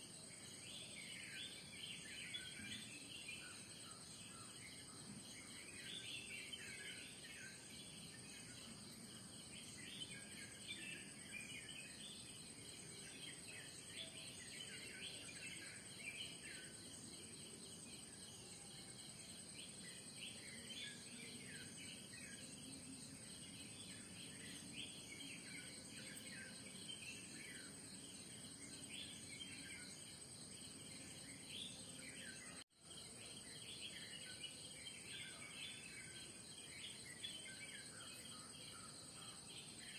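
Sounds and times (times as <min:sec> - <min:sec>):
crickets droning: 0:00.0 - 0:39.9
small birds chirping: 0:00.0 - 0:39.9.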